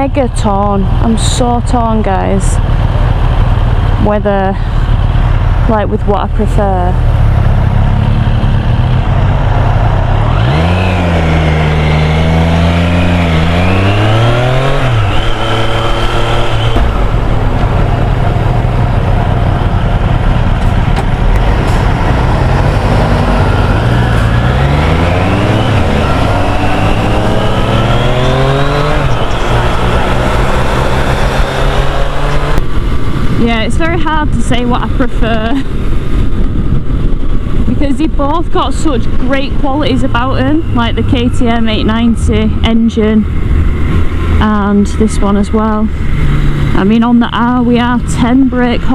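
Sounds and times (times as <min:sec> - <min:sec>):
motorcycle engine accelerating: 0:00.0 - 0:48.9
wind rush: 0:00.7 - 0:48.9.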